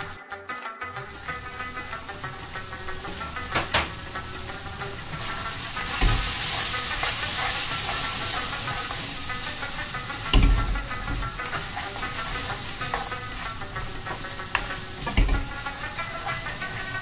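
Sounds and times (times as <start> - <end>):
meat sizzling in a pan: 1.0 - 17.0
metal spoon scraping a pan: 1.1 - 17.0
spoon knocking on pan: 1.1 - 17.0.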